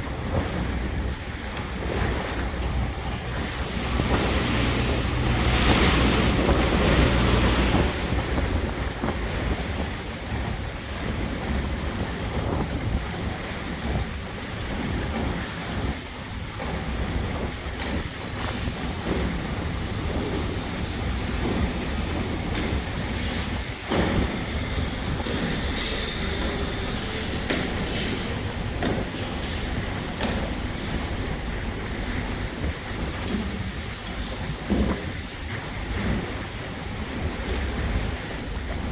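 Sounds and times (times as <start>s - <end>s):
boat engine rumble: 0.0s - 38.9s
water washing along hull: 0.0s - 38.9s
wind buffeting microphone: 0.0s - 38.9s.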